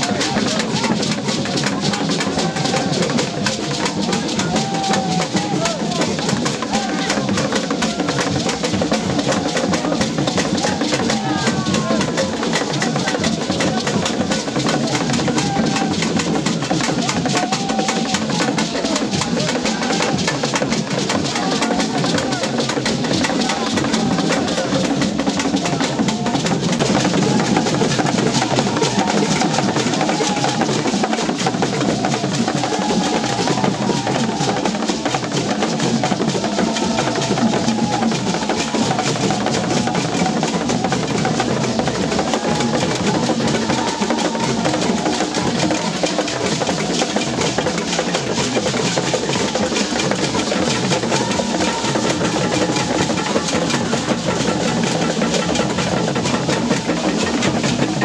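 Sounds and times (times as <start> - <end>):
hand drums playing fast rhythm: 0.0 - 58.0.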